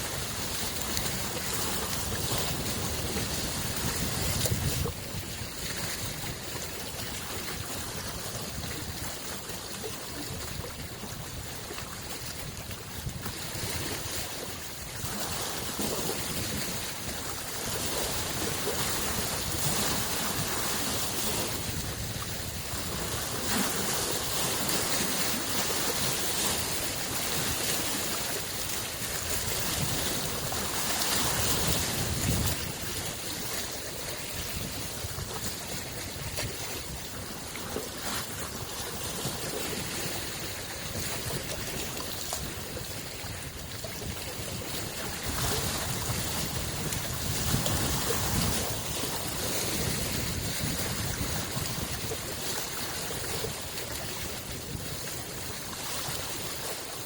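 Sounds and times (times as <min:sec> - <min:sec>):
small waves washing onto shore: 0:00.0 - 0:57.0.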